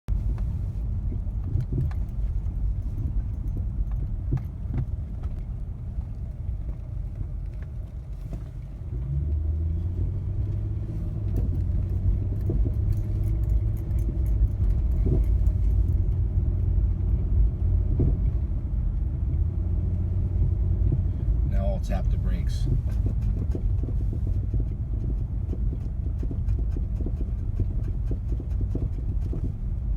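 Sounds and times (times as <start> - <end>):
road and engine rumble: 0.0 - 29.9.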